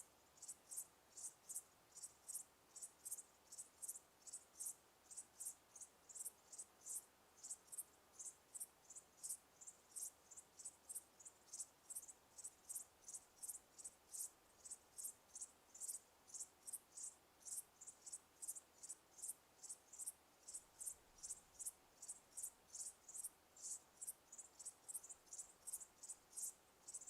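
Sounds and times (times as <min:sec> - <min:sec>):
crickets chirping faintly: 0:00.0 - 0:27.0.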